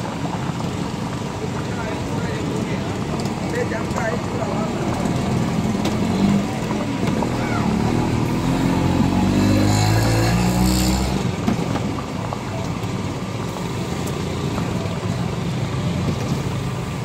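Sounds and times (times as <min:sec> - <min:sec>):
food deep-frying in oil: 0:00.0 - 0:17.0
vehicle engine running: 0:00.0 - 0:17.0.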